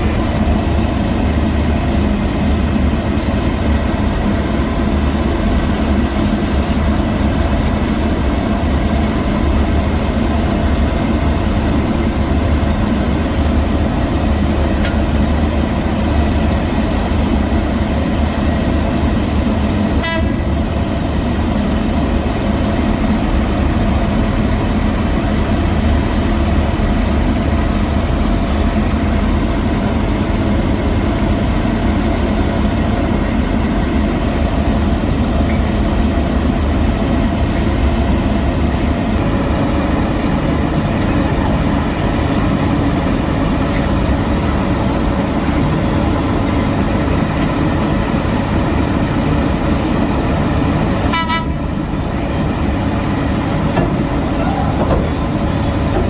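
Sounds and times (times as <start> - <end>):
construction machinery engines rumbling: 0.0 - 56.0.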